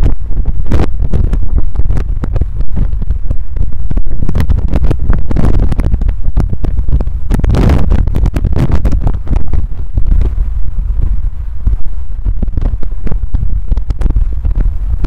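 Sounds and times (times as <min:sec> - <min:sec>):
distorted road rumble: 0:00.0 - 0:15.0
wind on microphone: 0:00.0 - 0:15.0.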